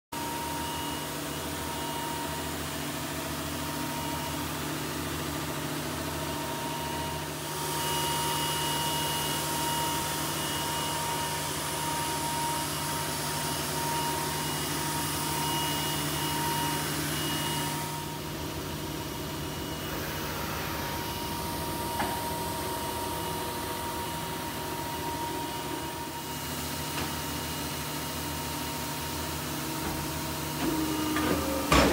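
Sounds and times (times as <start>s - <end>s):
machine hum with whining tones: 0.2s - 31.9s.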